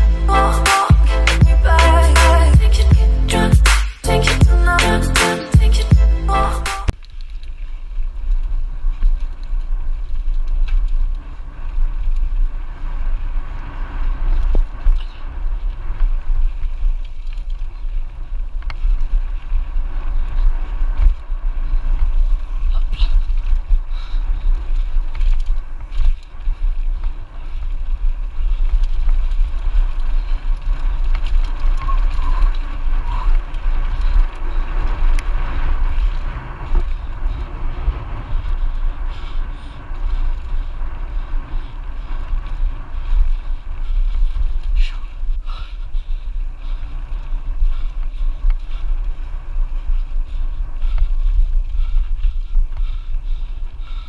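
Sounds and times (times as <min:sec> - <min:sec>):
tyre noise on trail: 0:06.9 - 0:54.0
wind buffeting microphone: 0:08.1 - 0:54.0.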